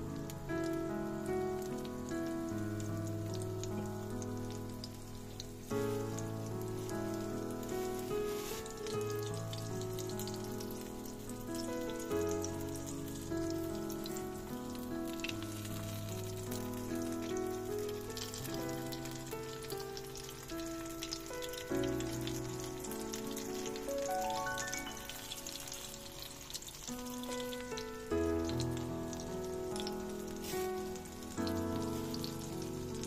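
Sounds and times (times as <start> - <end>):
food frying in oil: 0.0 - 33.0
instrumental background music: 0.0 - 33.0.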